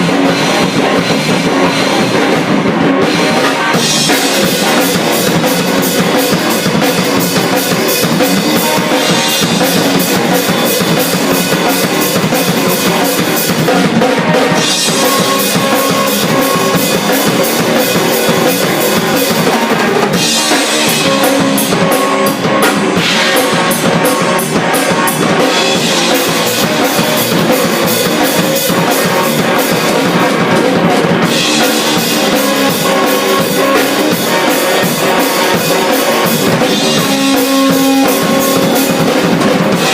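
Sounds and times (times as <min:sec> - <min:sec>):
fast drum and cymbal hits: 0:00.0 - 0:39.9.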